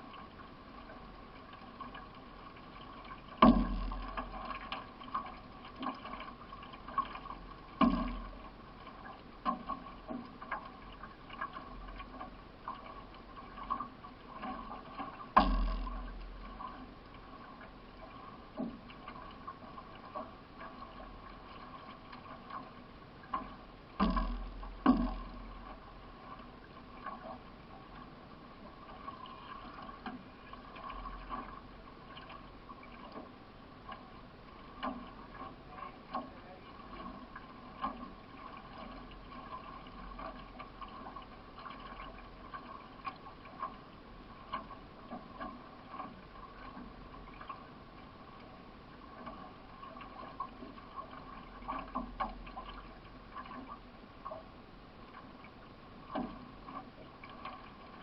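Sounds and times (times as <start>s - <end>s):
canoe paddle strokes: 0.0s - 58.0s
paddle knocks and splashes: 0.0s - 58.0s.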